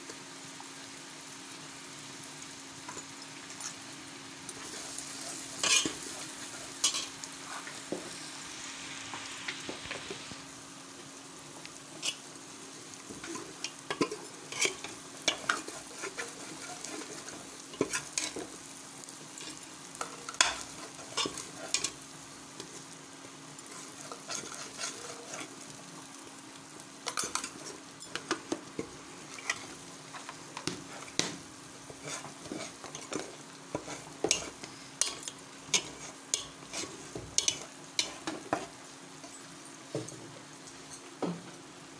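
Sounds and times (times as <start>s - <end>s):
paste sizzling in oil: 0.2s - 39.4s.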